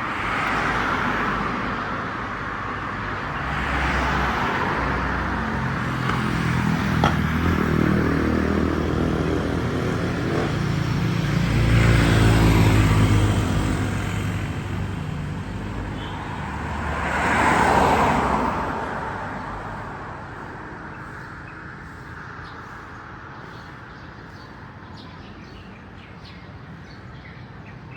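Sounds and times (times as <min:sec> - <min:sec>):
vehicles passing on a road: 0:00.0 - 0:27.9.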